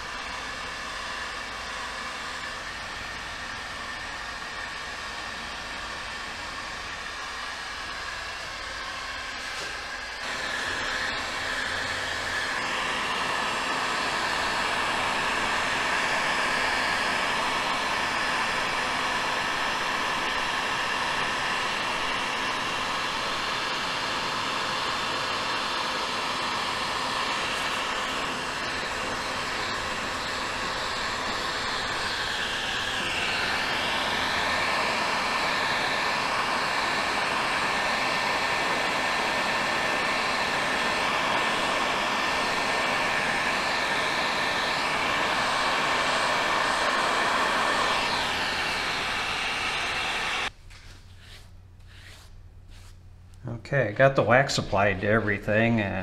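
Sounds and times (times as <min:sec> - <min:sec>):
electric blower whirring: 0:00.0 - 0:51.3.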